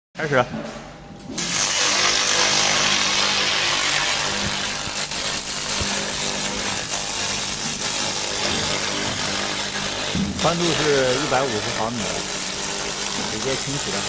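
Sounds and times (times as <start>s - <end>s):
laser beam hissing and crackling: 1.3s - 14.0s.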